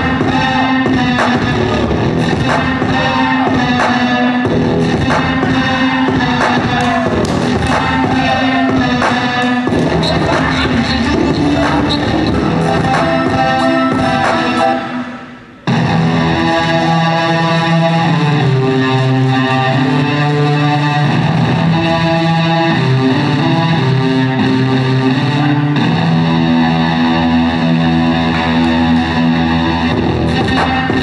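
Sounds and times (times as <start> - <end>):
distorted electric guitar: 0.0 - 31.0
steady bass: 0.0 - 31.0.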